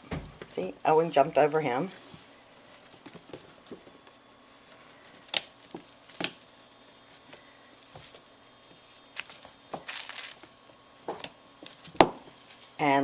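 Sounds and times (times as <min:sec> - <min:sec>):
kittens' paws thumping and scrabbling: 0:01.9 - 0:12.8.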